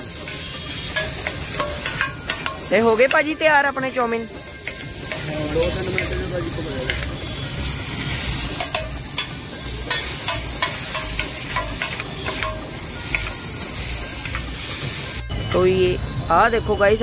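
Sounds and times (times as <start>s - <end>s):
noodles sizzling on a griddle: 0.0s - 15.2s
metal spatulas clinking and scraping: 0.2s - 7.2s, 7.9s - 14.6s.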